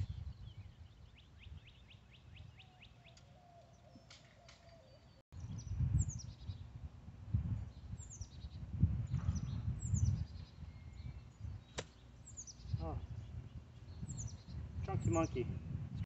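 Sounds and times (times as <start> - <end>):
wind rumble on microphone: 0.0 - 2.9, 5.3 - 16.0
birds chirping: 0.0 - 6.7, 7.6 - 15.5.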